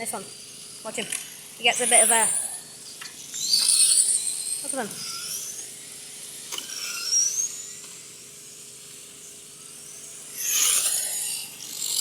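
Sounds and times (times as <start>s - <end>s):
remote-control car motors whining: 0.0s - 12.0s.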